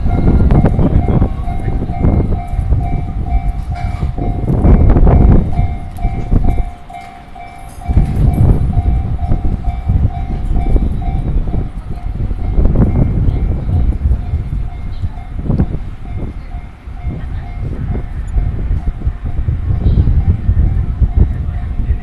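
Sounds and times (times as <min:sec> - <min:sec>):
level crossing warning bell: 0:00.0 - 0:22.0
train rumbling past: 0:00.0 - 0:22.0.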